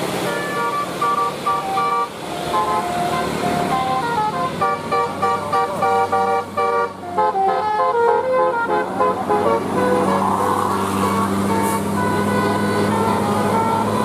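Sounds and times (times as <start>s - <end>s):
bus engine drone: 0.0s - 14.0s
musical air horn tune: 0.2s - 14.0s.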